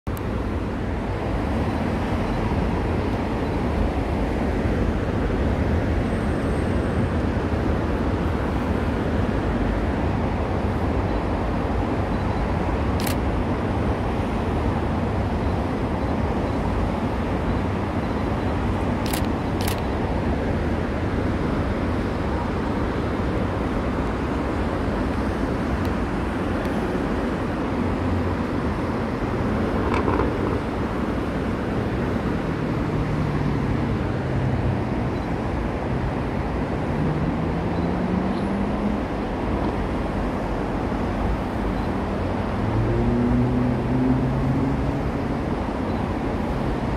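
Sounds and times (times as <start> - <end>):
road traffic hum: 0.0 - 46.9.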